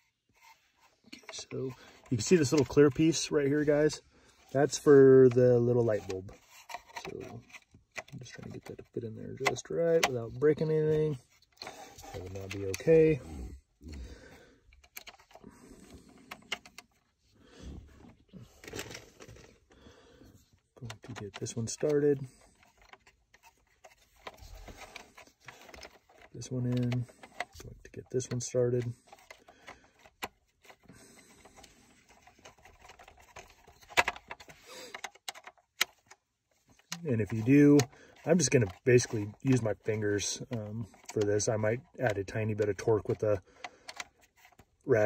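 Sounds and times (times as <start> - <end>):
plastic clicks and scrapes: 0.0 - 45.0.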